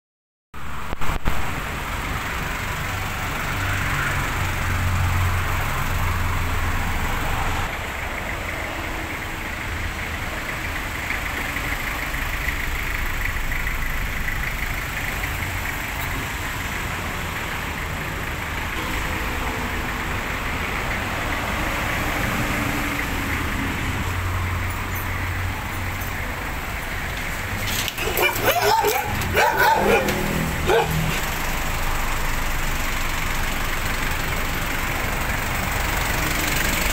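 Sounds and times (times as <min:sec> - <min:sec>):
vehicle engine running: 0:00.6 - 0:36.9.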